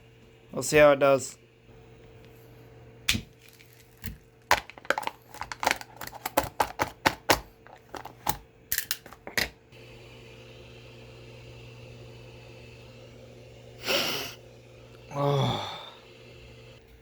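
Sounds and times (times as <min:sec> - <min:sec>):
machine hum with fan hiss: 0:00.0 - 0:17.0.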